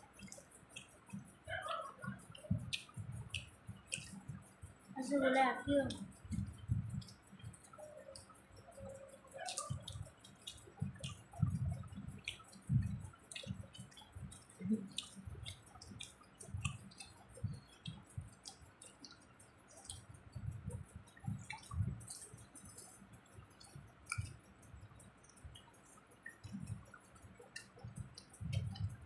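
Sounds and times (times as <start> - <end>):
small sharp clicks: 0.0 - 5.0, 5.7 - 29.0
wet chewing: 0.0 - 29.0.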